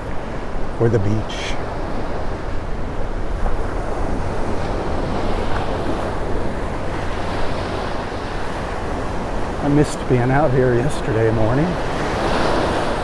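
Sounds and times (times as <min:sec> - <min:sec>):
waves breaking on shore: 0:00.0 - 0:13.0.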